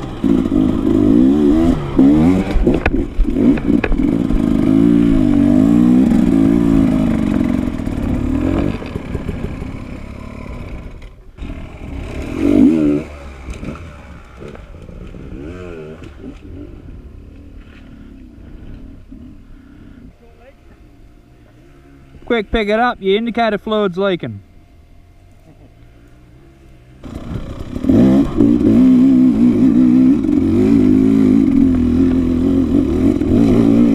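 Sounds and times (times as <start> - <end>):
dirt bike engine revving: 0.0 - 20.1, 25.4 - 33.9.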